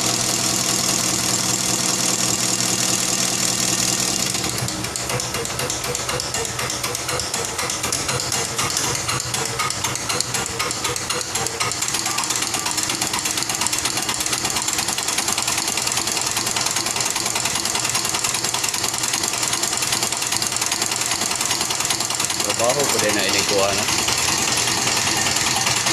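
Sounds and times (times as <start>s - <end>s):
diesel engine clattering: 0.0s - 25.9s.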